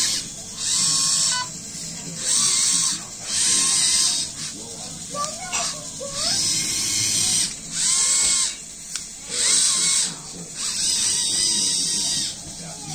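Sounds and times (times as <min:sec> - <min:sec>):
electric motors whirring: 0:00.0 - 0:12.9.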